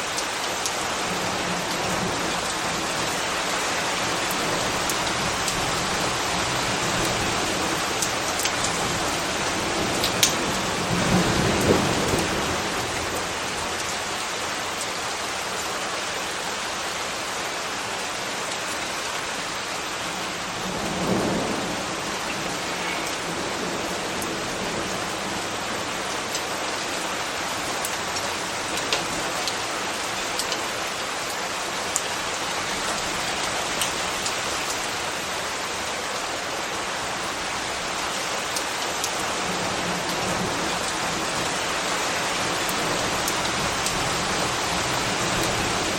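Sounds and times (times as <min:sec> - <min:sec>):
steady rain: 0:00.0 - 0:45.9.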